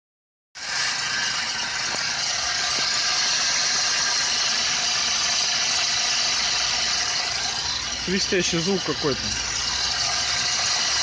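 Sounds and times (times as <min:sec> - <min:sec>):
petrol engine running: 0:00.6 - 0:11.0.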